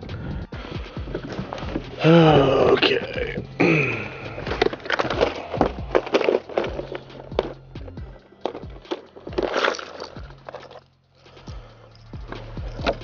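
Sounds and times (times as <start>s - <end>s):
music with a beat: 0.0s - 13.0s
steady low tones: 0.0s - 13.0s.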